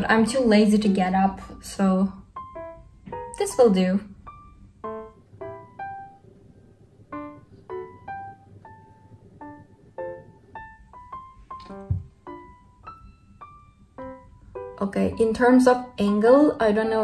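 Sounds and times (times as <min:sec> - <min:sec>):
gentle melody of separate notes: 0:00.0 - 0:17.0.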